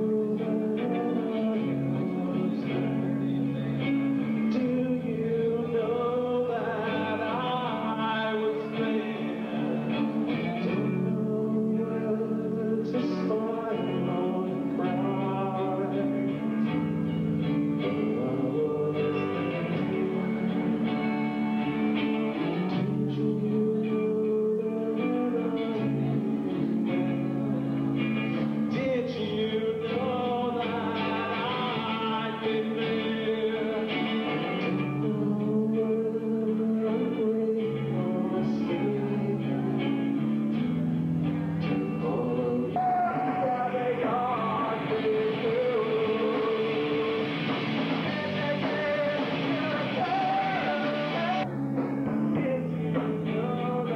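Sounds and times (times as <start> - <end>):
electric guitar: 0.0 - 53.9
live rock band playing: 0.0 - 53.9
person singing: 0.0 - 53.9.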